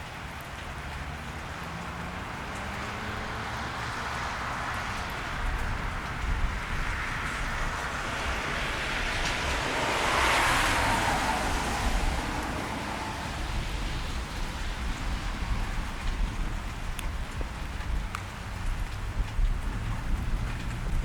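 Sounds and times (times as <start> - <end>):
car tyres hissing on wet street: 0.0 - 21.0
steady rain: 0.0 - 21.0.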